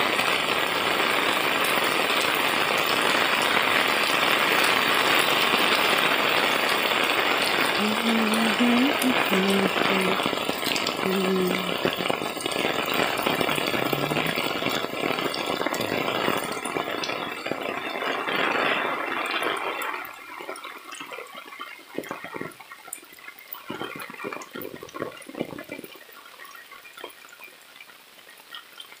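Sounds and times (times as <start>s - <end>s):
heavy rain pouring: 0.0s - 27.4s
rain drips and splashes: 0.0s - 29.0s.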